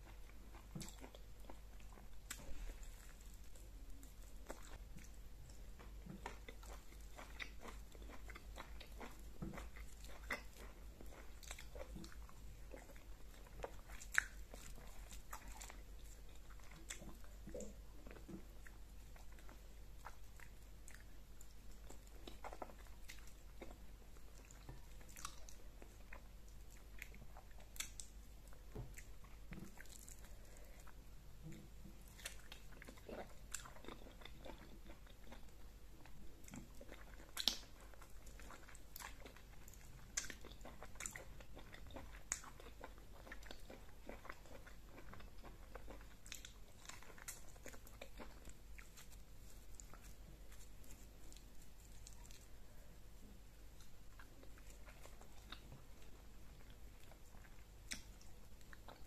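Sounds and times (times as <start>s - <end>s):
person chewing and lip smacking: 0.0s - 59.0s.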